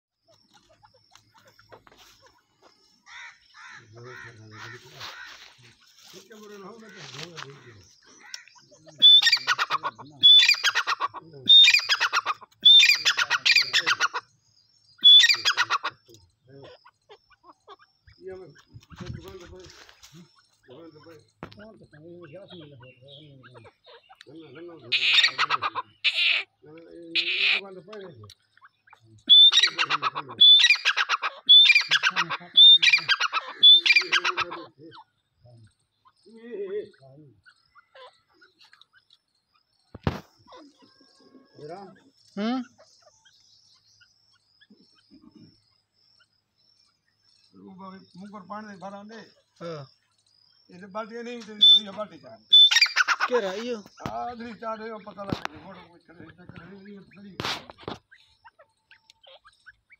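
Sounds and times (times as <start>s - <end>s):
francolin calling: 0.1s - 59.9s.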